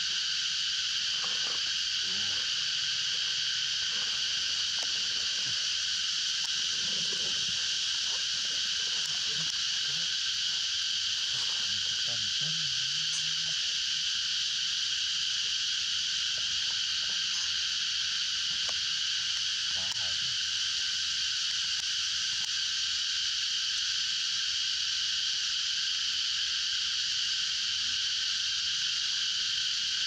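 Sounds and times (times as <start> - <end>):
insect chorus drone: 0.0 - 30.0.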